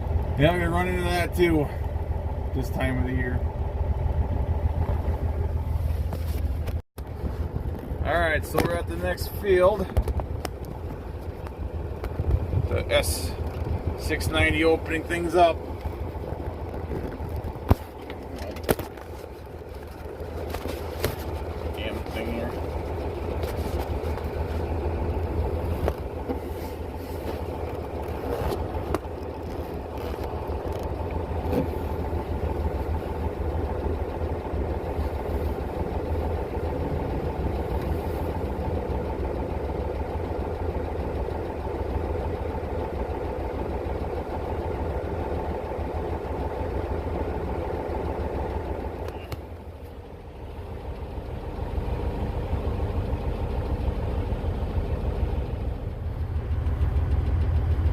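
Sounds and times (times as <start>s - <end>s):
heavy diesel engine humming: 0.0s - 57.9s.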